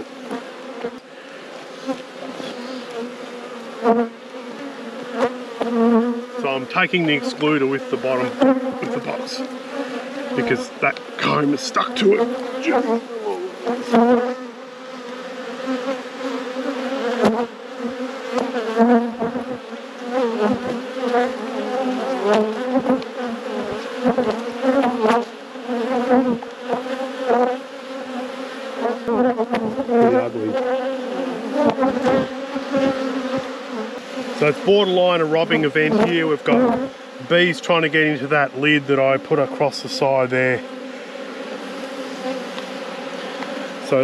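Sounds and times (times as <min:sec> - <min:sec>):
honeybees buzzing: 0:00.0 - 0:44.0.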